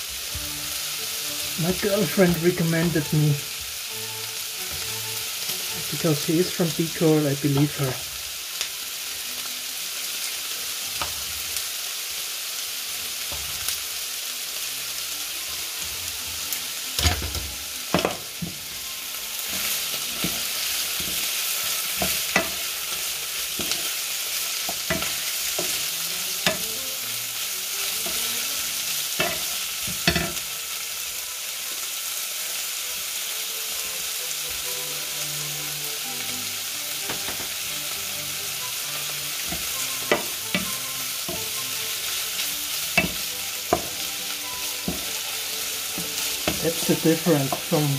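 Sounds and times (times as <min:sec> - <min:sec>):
pork sizzling in a pan: 0:00.0 - 0:47.9.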